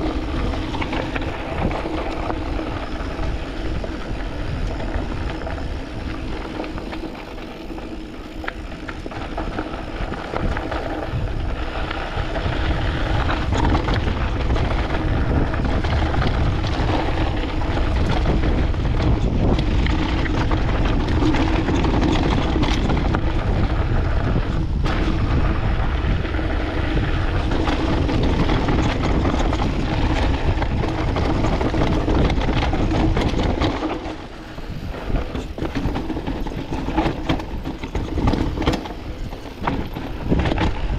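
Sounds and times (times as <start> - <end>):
bike chain and frame rattling: 0.0 - 40.9
tyres crunching over loose stones: 0.0 - 40.9
wind buffeting microphone: 0.0 - 40.9.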